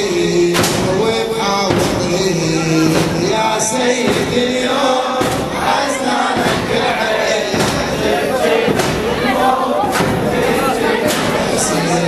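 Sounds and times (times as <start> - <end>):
man chanting a lament: 0.0 - 12.0
drum and cymbal strikes: 0.1 - 11.8.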